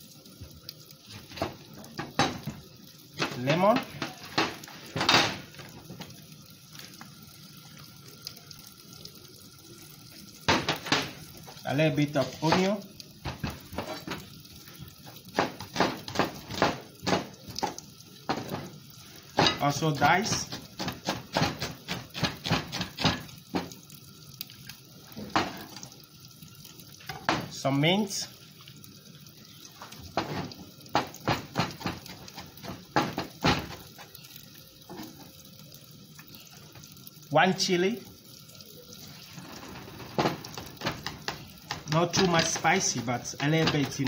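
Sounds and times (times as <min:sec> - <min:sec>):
juice trickling into bowl: 0:00.0 - 0:44.0.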